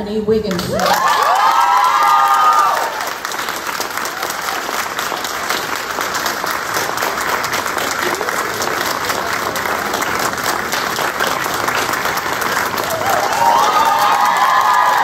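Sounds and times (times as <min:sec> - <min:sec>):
audience applauding: 0:00.7 - 0:15.0.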